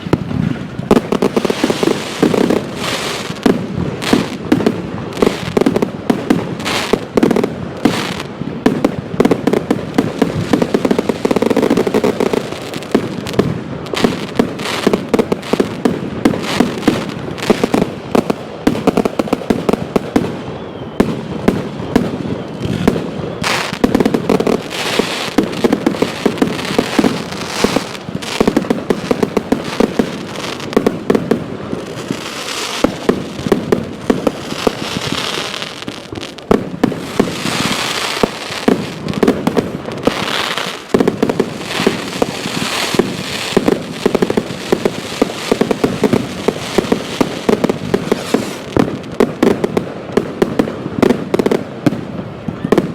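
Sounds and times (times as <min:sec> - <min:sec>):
fireworks banging and crackling: 0:00.0 - 0:52.9.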